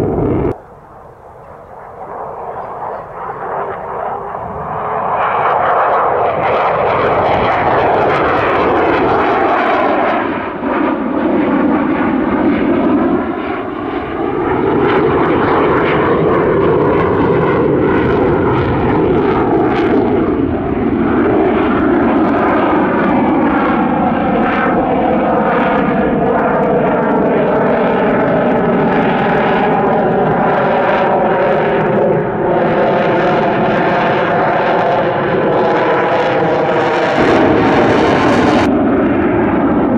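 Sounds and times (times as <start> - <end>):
jet roar overhead: 0.0 - 39.9.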